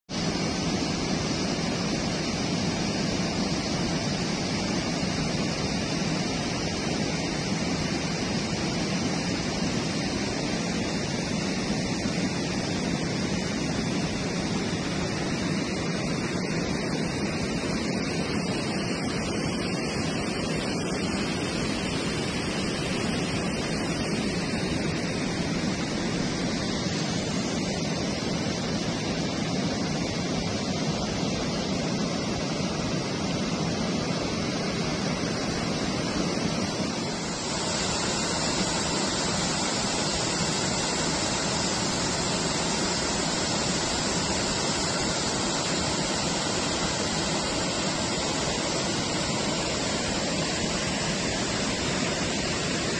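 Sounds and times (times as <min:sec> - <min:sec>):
floodwater rushing over weir: 0:00.1 - 0:52.9.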